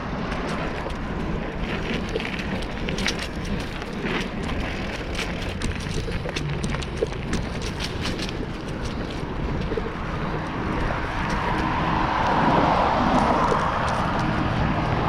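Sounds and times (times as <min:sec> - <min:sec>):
bicycle clicks and rattles: 0:00.0 - 0:15.0
bicycle tyre and wind noise: 0:00.0 - 0:15.0.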